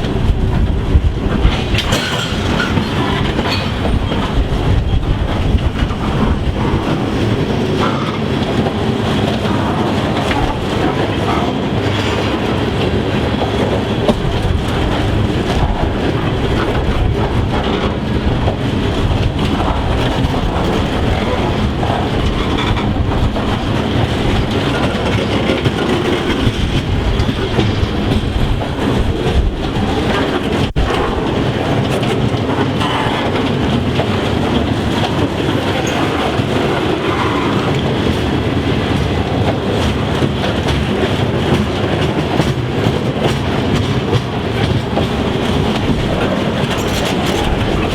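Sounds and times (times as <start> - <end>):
train wheels clattering over rail joints: 0.0 - 47.9.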